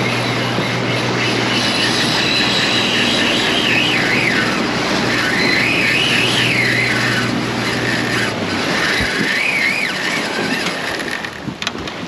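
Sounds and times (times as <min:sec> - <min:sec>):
wavering high whistle: 0:00.0 - 0:10.6
wind rushing: 0:00.0 - 0:10.7
churning wake water: 0:00.0 - 0:12.0
outboard engine running: 0:00.0 - 0:12.0.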